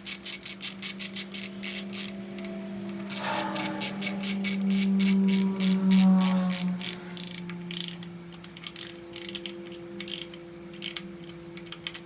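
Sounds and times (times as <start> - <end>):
torque wrench ratchet clicking: 0.0 - 12.0
low steady hum: 0.4 - 12.0.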